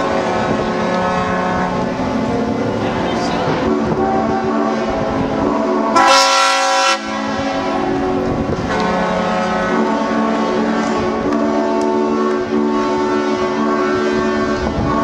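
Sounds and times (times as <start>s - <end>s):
loud horn blast: 0.0s - 15.0s
yacht horns sounding together: 0.0s - 15.0s.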